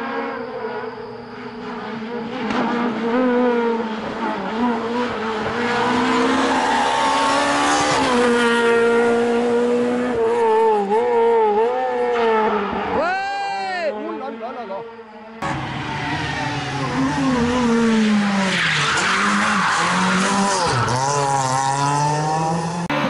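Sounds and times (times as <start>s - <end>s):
rally car engine revving: 0.0s - 13.0s, 14.0s - 23.0s.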